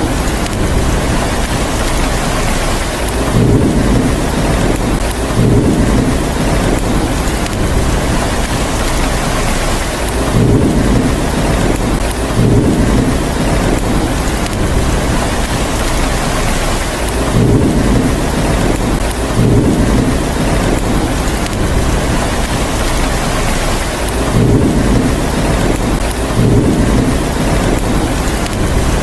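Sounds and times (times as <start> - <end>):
heavy rain hissing: 0.0 - 29.0
low thunder rumbles: 0.0 - 29.0.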